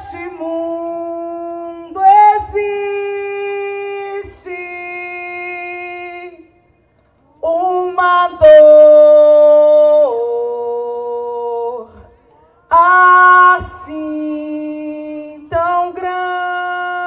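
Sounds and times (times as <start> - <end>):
woman singing a hymn: 0.0 - 6.6, 7.4 - 17.0.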